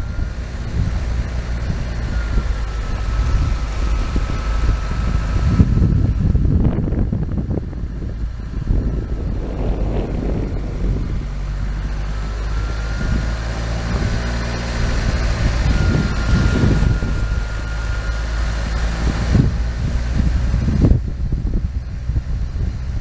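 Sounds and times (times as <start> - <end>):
vehicle engine running: 0.0 - 23.0
wind rumble on microphone: 0.0 - 23.0.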